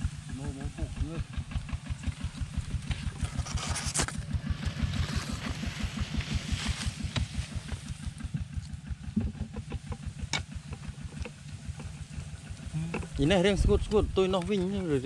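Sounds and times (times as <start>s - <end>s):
leaves rustling against microphone: 0.0s - 15.0s
small engine chugging: 0.0s - 15.0s.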